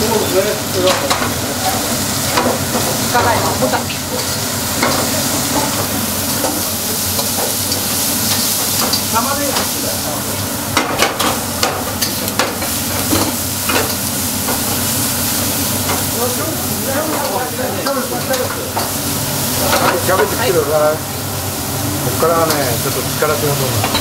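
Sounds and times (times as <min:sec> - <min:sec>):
utensils clicking against pans: 0:00.0 - 0:20.6, 0:22.2 - 0:24.0
food sizzling in woks: 0:00.0 - 0:24.0.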